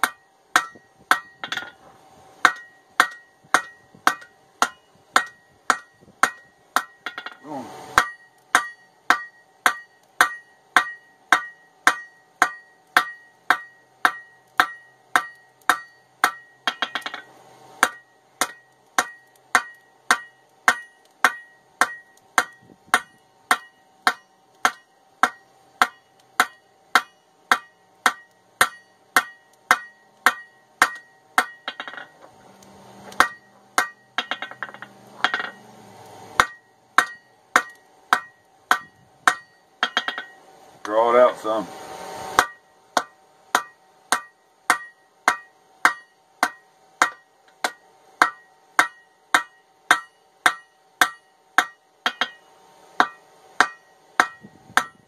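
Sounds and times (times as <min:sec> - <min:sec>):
hammer ringing on anvil: 0:02.4 - 0:32.2, 0:33.2 - 0:35.7, 0:36.4 - 0:40.4, 0:42.4 - 0:47.3, 0:48.2 - 0:52.4, 0:53.0 - 0:55.0.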